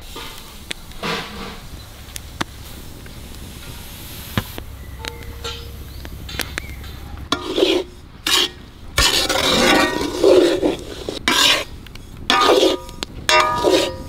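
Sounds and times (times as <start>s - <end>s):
metal ladle scraping iron pan: 0.1s - 2.7s, 4.7s - 11.7s, 12.3s - 14.0s.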